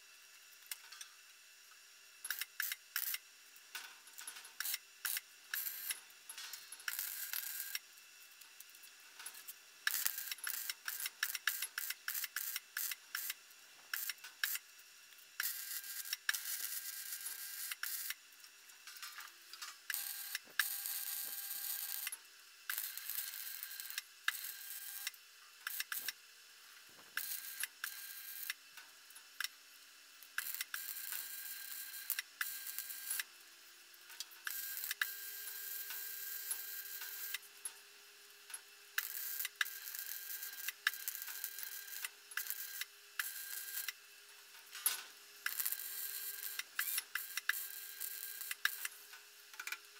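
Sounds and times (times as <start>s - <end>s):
arc welding crackling: 2.2s - 49.9s.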